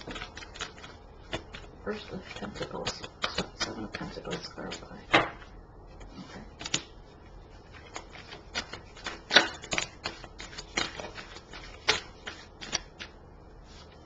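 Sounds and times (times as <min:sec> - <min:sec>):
cards being shuffled: 0:00.0 - 0:06.9, 0:07.7 - 0:14.0.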